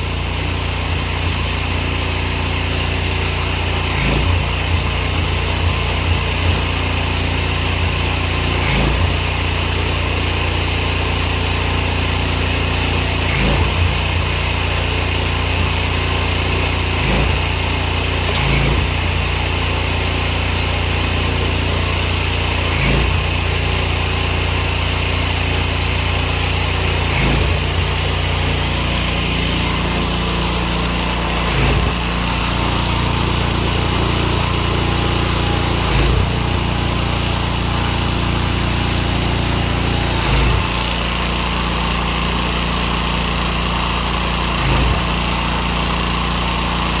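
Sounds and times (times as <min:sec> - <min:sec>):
pressure washer engine running: 0:00.0 - 0:47.0.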